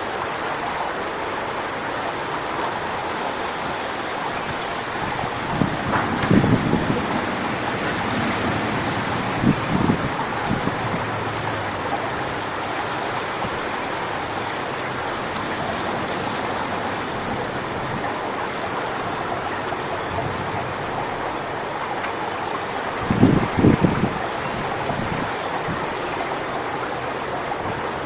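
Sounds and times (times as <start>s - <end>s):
wind rushing through palm fronds: 0.0s - 28.0s
wind buffeting microphone: 3.5s - 28.0s.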